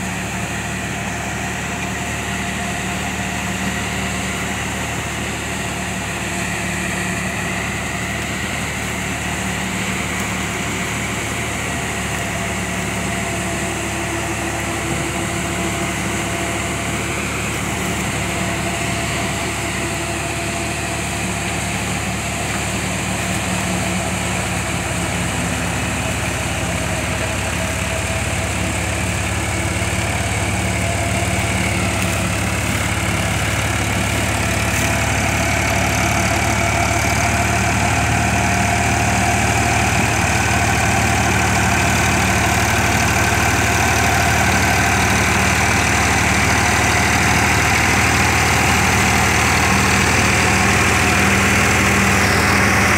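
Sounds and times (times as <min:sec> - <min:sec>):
tractor diesel engine drone: 0:00.0 - 0:52.9.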